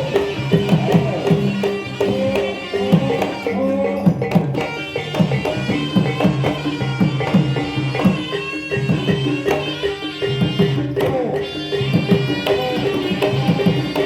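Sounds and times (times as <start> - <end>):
hand drum strokes: 0.0 - 14.0
tuned percussion held notes: 0.0 - 14.0.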